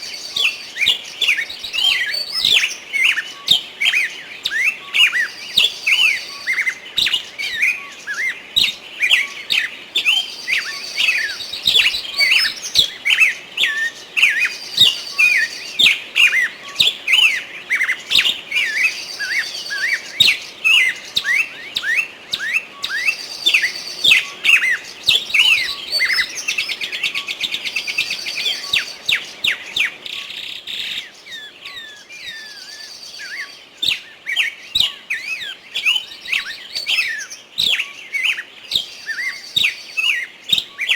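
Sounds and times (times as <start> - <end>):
buzzy bird trill: 0.0 - 40.9
small birds chirping: 0.0 - 40.9.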